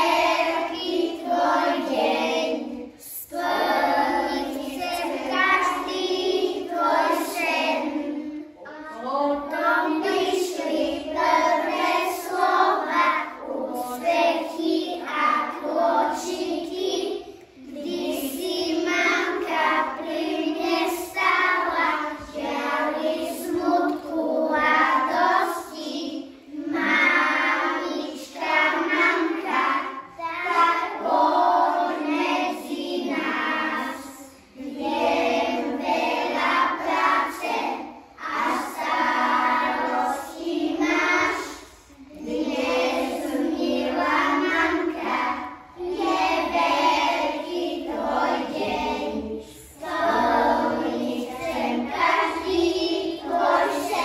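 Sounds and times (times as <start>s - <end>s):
children singing in unison: 0.0s - 54.0s.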